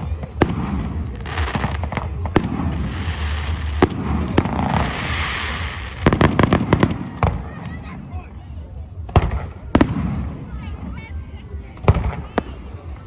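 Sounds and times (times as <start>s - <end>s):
fireworks bangs: 0.0s - 8.2s, 9.0s - 13.0s
low rumble: 0.0s - 10.5s
fireworks crackling: 0.0s - 13.0s.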